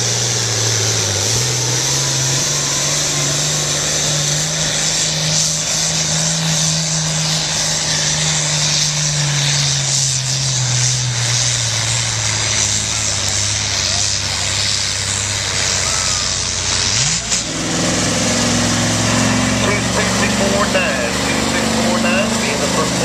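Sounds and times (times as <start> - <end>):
tractor engine at full throttle: 0.0 - 23.0.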